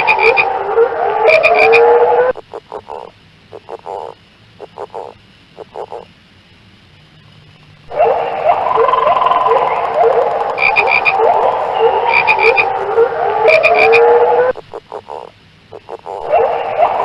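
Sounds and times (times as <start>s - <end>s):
chorus of frogs croaking: 0.0s - 6.1s, 7.9s - 17.0s
high-pitched frog call: 0.0s - 6.2s, 7.9s - 17.0s.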